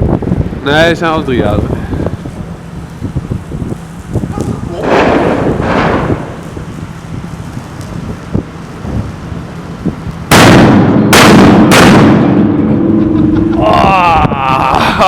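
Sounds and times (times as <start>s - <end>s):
firework bangs echoing: 1.4s - 13.6s.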